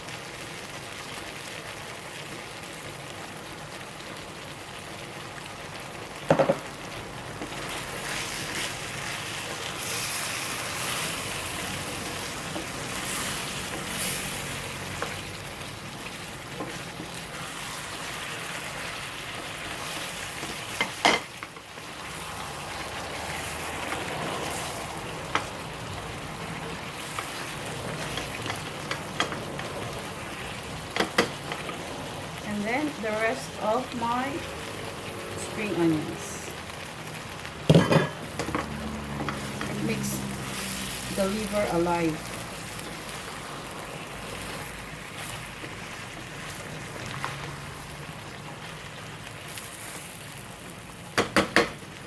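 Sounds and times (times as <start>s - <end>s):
food sizzling in a frying pan: 0.0s - 52.0s.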